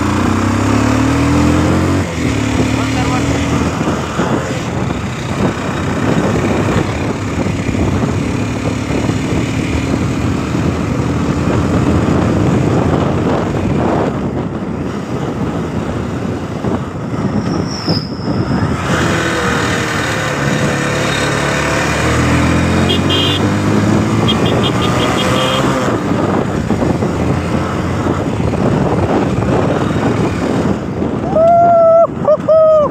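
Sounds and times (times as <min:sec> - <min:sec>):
motorcycle engine running: 0:00.0 - 0:17.2, 0:19.0 - 0:31.2
wind noise on microphone: 0:00.0 - 0:32.9.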